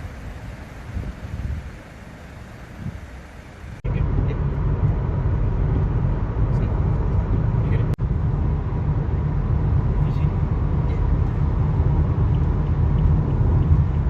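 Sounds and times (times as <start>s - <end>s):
car engine rumble: 0.0s - 14.0s
road noise: 0.0s - 14.0s.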